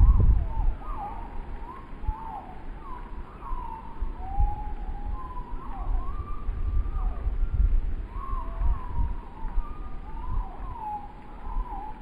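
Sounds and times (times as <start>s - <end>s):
strong wind howling: 0.0s - 12.0s
wind buffeting microphone: 0.0s - 12.0s
wind whistling: 0.0s - 12.0s.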